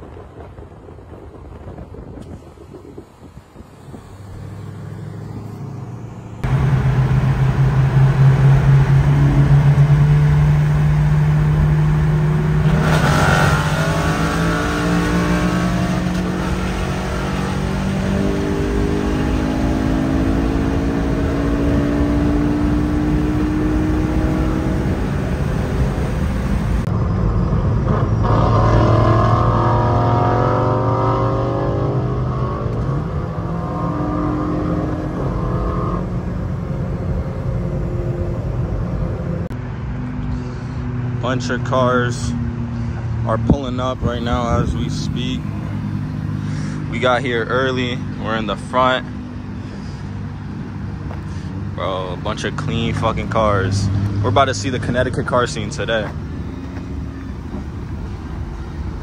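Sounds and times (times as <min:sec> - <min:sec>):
road and wind noise: 0:00.0 - 0:59.0
car engine accelerating: 0:01.7 - 0:59.0.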